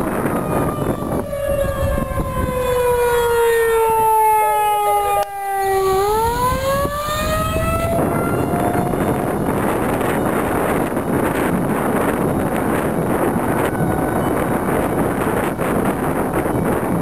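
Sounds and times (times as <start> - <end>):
warning siren wailing: 0.0 - 17.0
wind buffeting microphone: 0.0 - 17.0.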